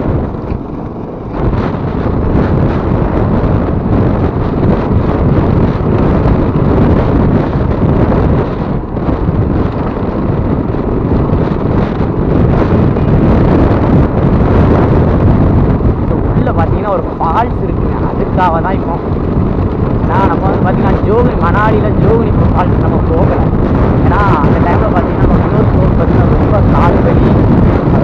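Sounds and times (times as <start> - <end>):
dull rush of riding noise: 0.0 - 28.0
wind buffeting microphone: 0.0 - 28.0.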